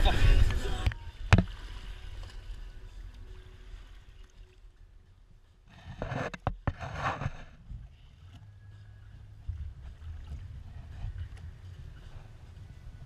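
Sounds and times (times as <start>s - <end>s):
wind and sea rumble: 0.0s - 13.0s.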